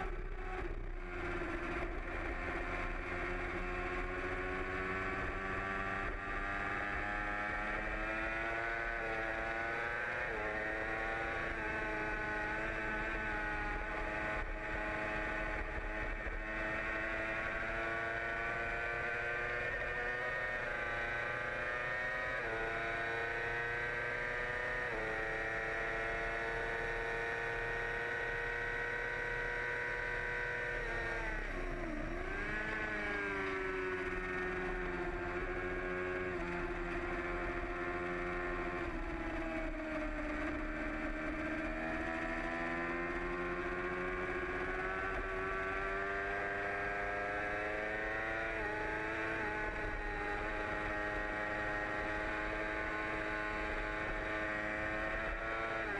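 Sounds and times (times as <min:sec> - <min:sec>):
motorcycle engine at high revs: 0:00.0 - 0:55.9.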